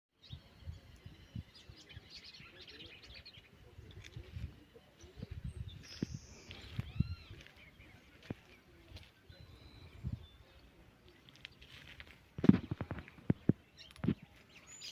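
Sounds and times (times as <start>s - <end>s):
birds chirping and singing: 0.2s - 14.9s.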